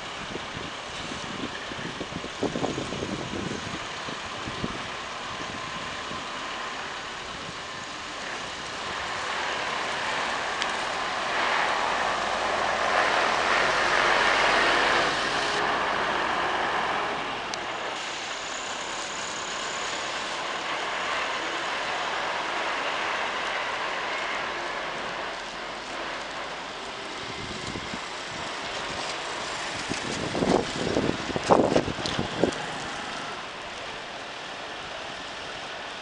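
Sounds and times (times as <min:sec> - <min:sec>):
diesel coach driving past: 0:01.6 - 0:36.0.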